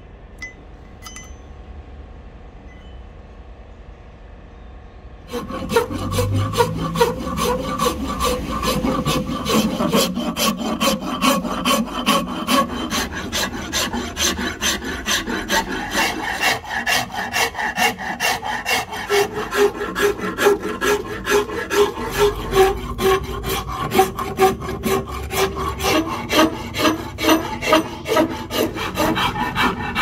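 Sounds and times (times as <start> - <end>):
hand rasp scraping wood: 5.3 - 30.0.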